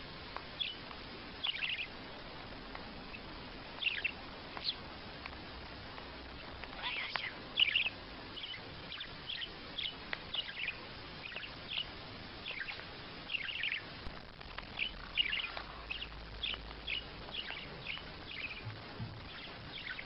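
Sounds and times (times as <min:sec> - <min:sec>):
small bird chirping: 0:00.4 - 0:20.0.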